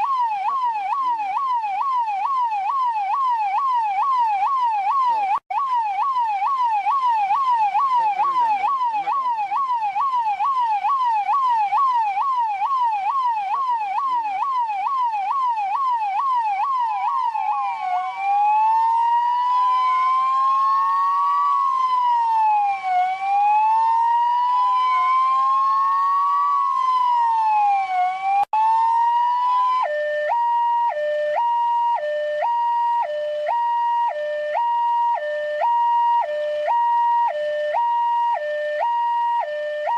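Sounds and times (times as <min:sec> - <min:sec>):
electronic police siren: 0:00.0 - 0:39.9.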